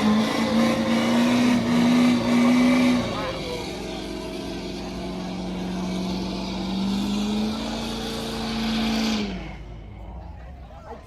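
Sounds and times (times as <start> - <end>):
truck engine at high revs: 0.0 - 11.0.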